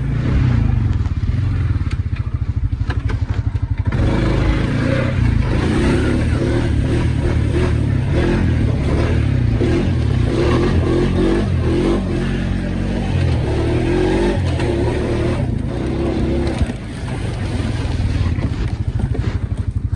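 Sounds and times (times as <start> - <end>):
atv engine revving: 0.0 - 19.9
engine knocks and clatters: 0.0 - 19.9.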